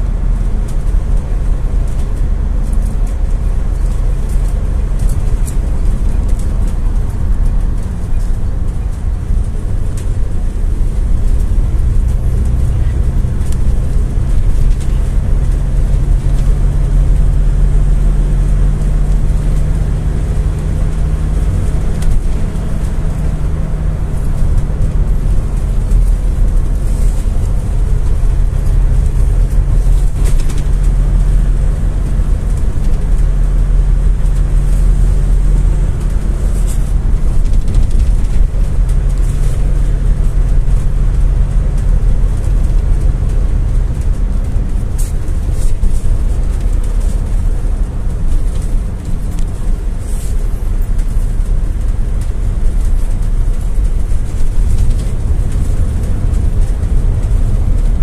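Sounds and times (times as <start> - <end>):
minibus engine and road rumble: 0.0 - 58.0.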